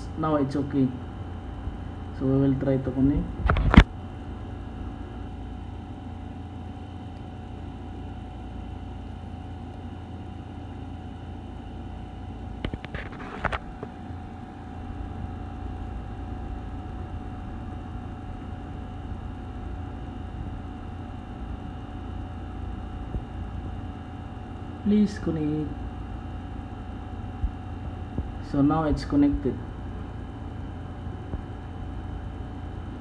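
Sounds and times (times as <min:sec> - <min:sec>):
faint high hum: 0:00.0 - 0:33.0
low room rumble: 0:00.0 - 0:33.0.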